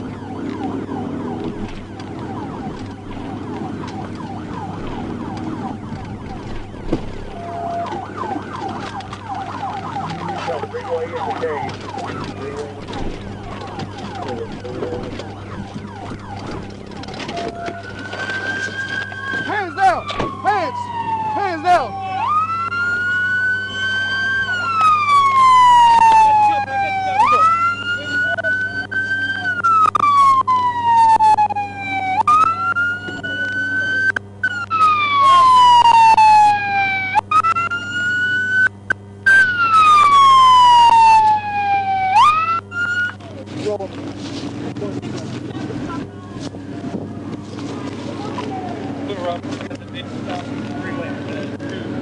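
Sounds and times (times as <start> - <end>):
police siren yelping: 0.0 - 44.8, 45.7 - 52.0
steady low hum: 0.0 - 52.0.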